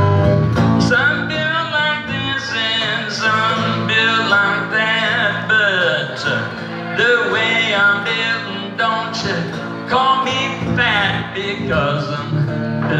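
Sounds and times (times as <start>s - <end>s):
blues electric guitar melody: 0.0s - 12.9s.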